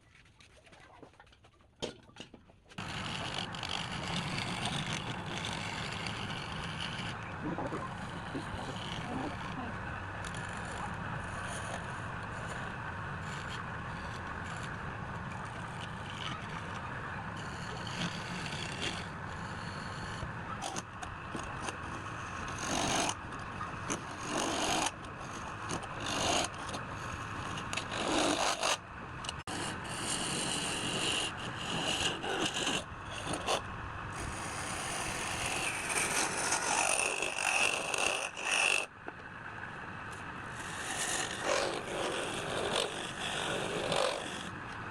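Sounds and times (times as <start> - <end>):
tools scraping wood: 2.8 - 33.6, 34.2 - 38.9, 40.1 - 44.6.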